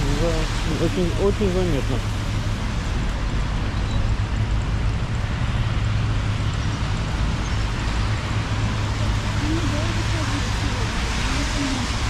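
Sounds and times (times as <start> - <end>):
rain: 0.0 - 12.0
traffic rumble: 0.0 - 12.0
tyres hissing on wet road: 0.0 - 12.0.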